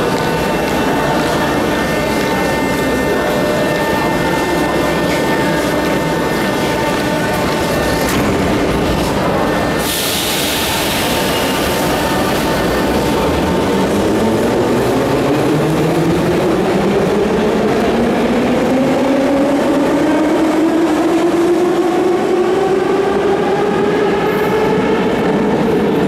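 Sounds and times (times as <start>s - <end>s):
train cars rolling on track: 0.0s - 26.0s.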